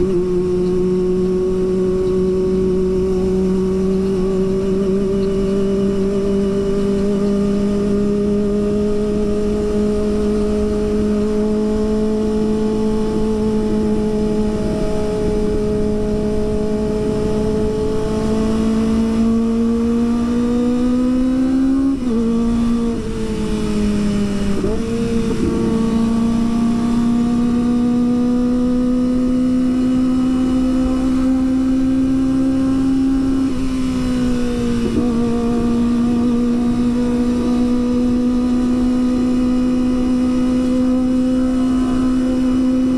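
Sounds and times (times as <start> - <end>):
motorcycle engine climbing: 0.0 - 42.9.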